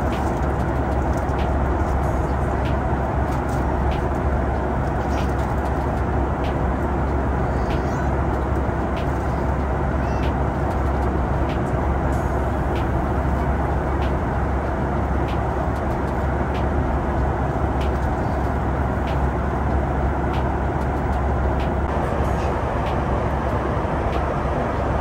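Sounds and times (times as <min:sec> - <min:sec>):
airliner cabin rush: 0:00.0 - 0:25.0.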